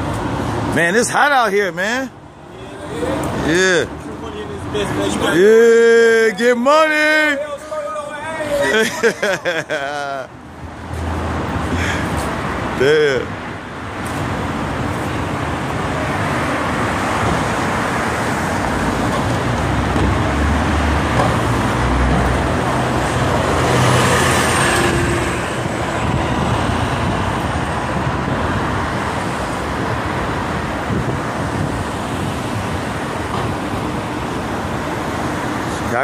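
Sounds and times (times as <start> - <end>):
bus engine rumbling: 0.0 - 36.0
street traffic: 0.0 - 36.0.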